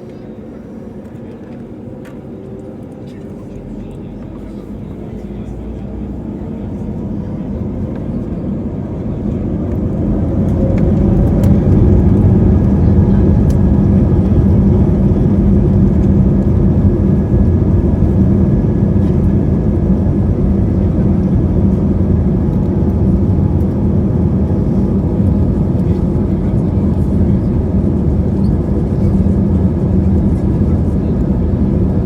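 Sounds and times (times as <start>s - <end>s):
jet engines during take-off: 0.0s - 32.0s.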